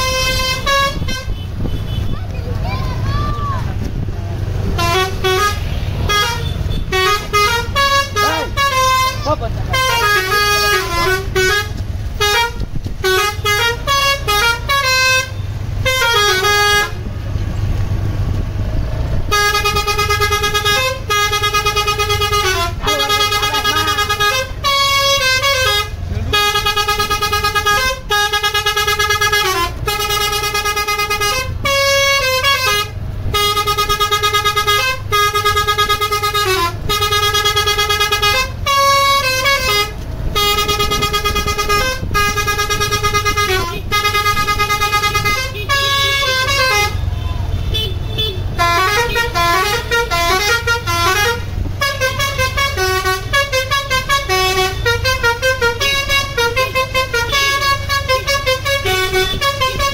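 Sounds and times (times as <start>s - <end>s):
bus engine running: 0.0s - 59.9s
musical air horn tune: 4.8s - 17.0s, 19.3s - 47.0s, 48.6s - 59.9s.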